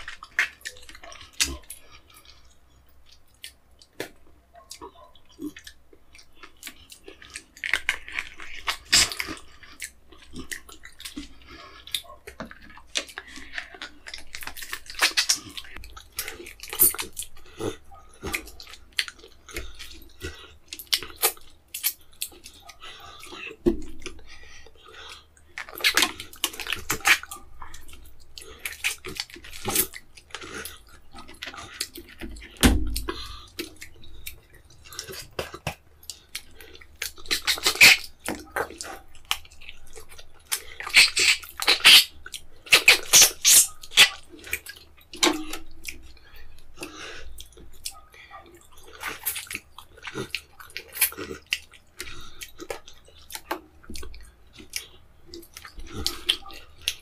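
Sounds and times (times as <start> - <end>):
crunching: 0.0 - 57.0
wet chewing and lip smacking: 0.0 - 57.0.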